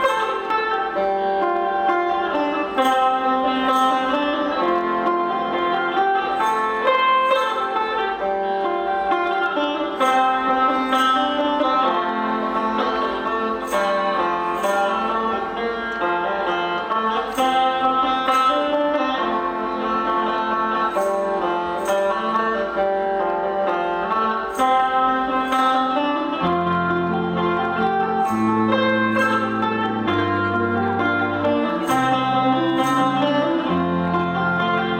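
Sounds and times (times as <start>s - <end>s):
guitar accompaniment: 0.0s - 34.9s
plucked lute melody: 0.0s - 34.9s.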